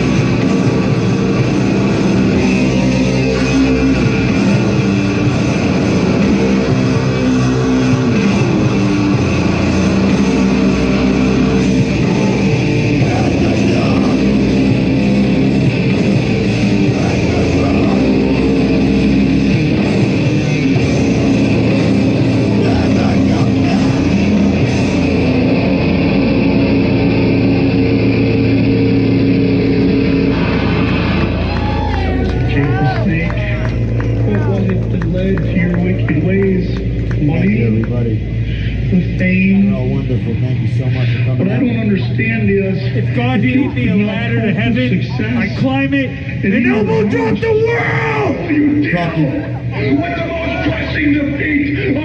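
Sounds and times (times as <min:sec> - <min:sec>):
drums: 0:00.0 - 0:41.8
distorted electric guitars: 0:00.0 - 0:52.0.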